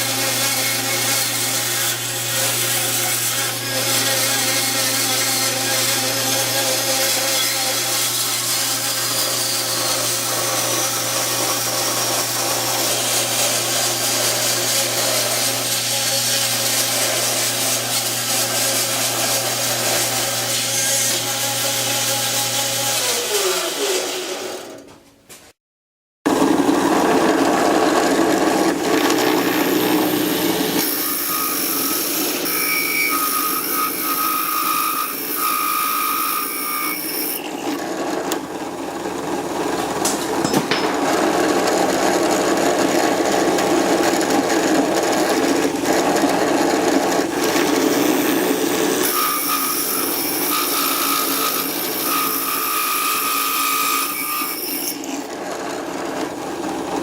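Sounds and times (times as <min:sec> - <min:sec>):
power tool cutting wood: 0:00.0 - 0:24.9, 0:26.3 - 0:57.0.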